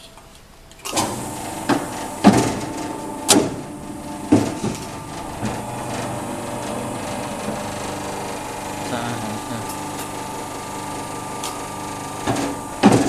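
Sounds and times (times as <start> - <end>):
paper cutter motor hum: 0.8 - 13.0.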